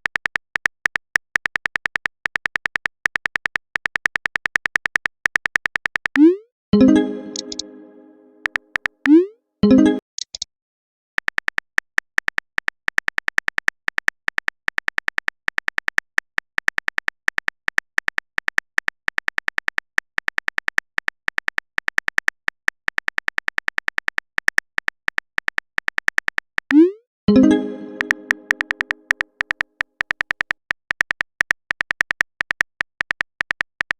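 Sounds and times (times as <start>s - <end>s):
synthetic keyboard typing clicks: 0.0s - 10.5s, 11.2s - 33.9s.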